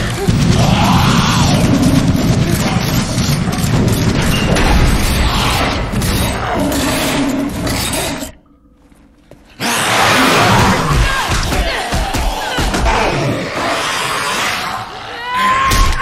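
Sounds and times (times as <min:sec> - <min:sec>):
horror film score and effects: 0:00.0 - 0:16.0.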